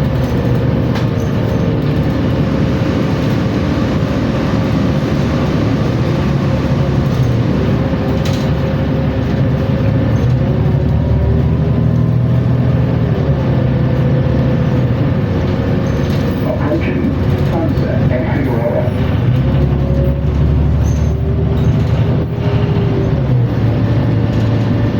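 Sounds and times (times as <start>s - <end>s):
bus engine drone with whine: 0.0s - 24.9s.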